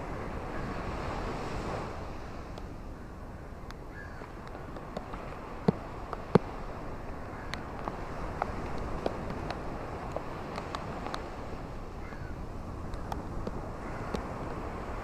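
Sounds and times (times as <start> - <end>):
sea waves washing on shore: 0.0 - 15.0
wind rumble on microphone: 0.0 - 15.0.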